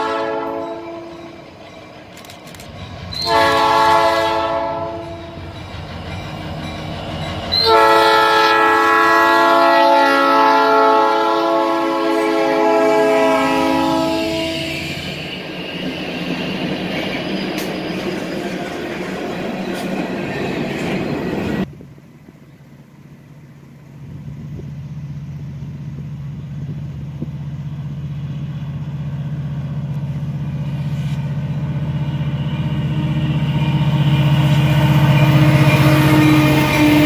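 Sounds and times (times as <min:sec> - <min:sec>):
diesel locomotives droning: 0:00.0 - 0:37.0.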